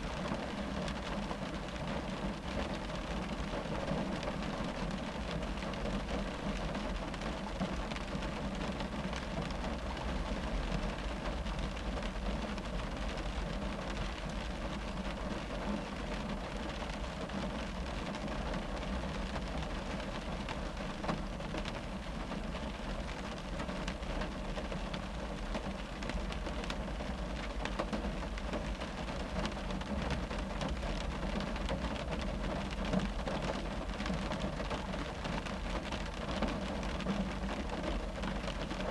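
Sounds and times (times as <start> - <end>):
rain drumming on car roof: 0.0 - 38.9.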